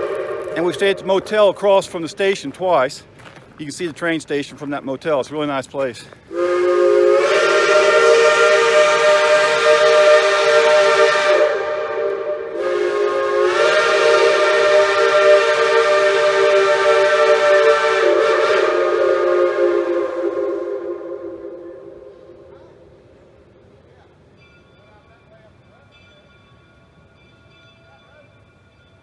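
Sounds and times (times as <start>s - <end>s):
steam locomotive chime whistle: 0.0s - 2.4s, 6.3s - 22.8s, 24.3s - 29.0s.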